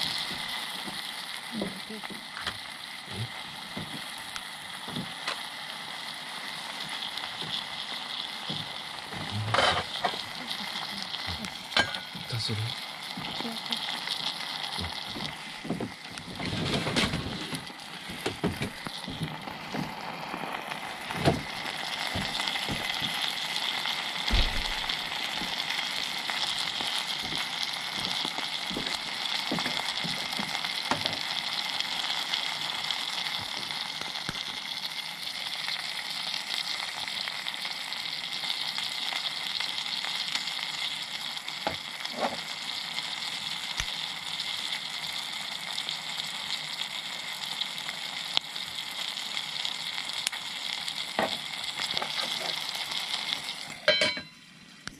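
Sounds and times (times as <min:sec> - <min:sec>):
food sizzling in a pot: 0:00.0 - 0:54.9.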